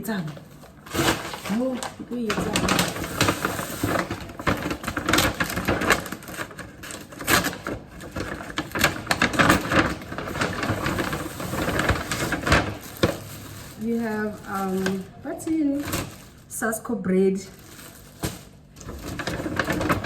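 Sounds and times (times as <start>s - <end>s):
plastic bags rustling and crinkling: 0.0s - 20.0s.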